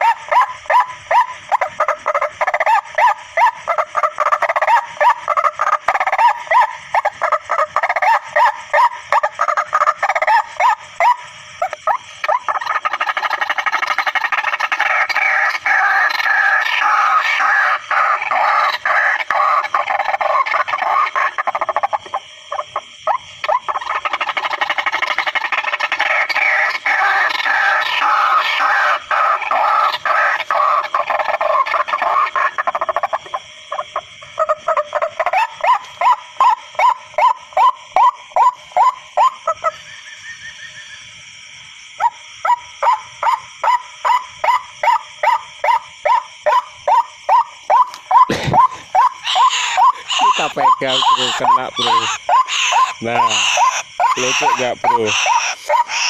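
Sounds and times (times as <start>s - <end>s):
waterhen calls: 0.0s - 41.1s, 42.0s - 56.0s.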